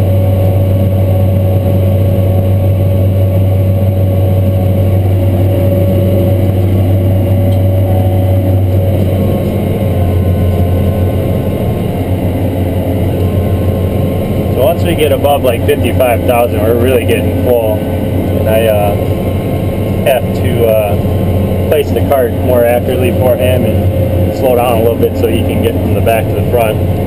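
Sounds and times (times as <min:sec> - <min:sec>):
diesel engine droning: 0:00.0 - 0:27.0
steady higher tone: 0:00.0 - 0:27.0.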